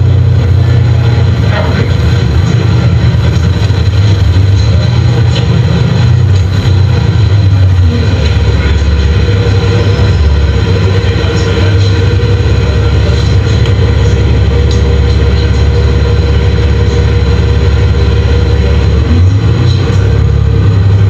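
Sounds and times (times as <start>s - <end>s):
bus engine and road drone: 0.0s - 21.0s.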